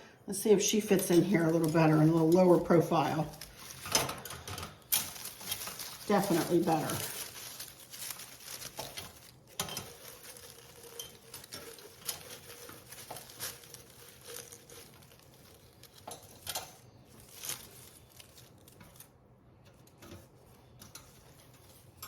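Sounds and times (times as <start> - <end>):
faint rustling: 0.5 - 22.0.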